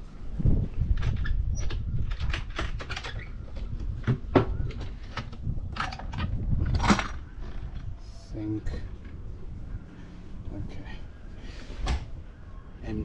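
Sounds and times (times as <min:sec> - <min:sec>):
wind rumble on microphone: 0:00.0 - 0:10.4.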